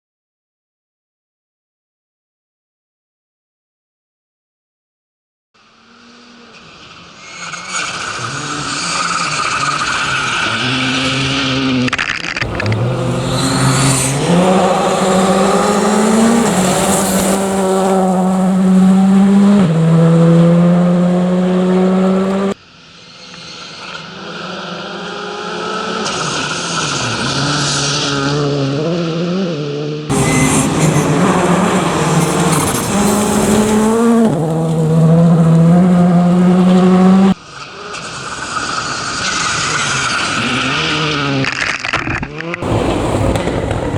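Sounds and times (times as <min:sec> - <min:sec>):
rally cars revving past: 0:05.9 - 0:22.6, 0:23.8 - 0:41.7, 0:42.4 - 0:43.9.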